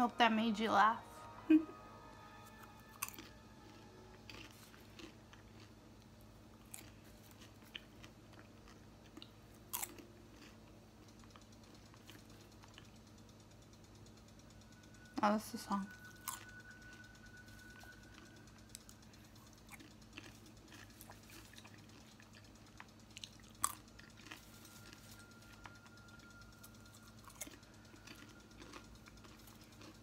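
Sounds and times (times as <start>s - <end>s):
person chewing popcorn: 2.4s - 13.3s, 15.8s - 30.0s.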